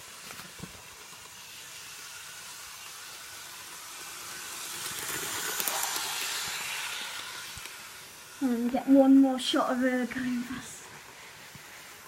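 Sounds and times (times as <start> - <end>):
model train whirring on track: 0.0 - 12.0.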